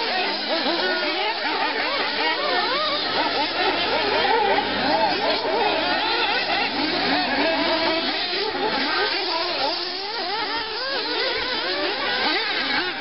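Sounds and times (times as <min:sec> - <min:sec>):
rc buggy engines revving: 0:00.0 - 0:13.0.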